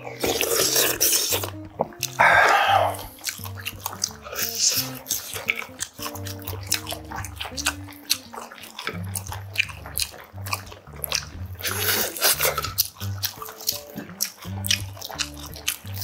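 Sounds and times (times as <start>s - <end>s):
background music with stepping bass: 0.0s - 16.0s
mouth chewing with wet clicks: 0.0s - 16.0s.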